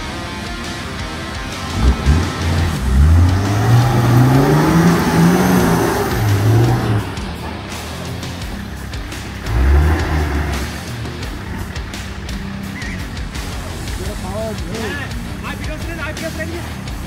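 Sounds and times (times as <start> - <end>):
background music: 0.0 - 17.0
engine revving hard: 0.7 - 17.0.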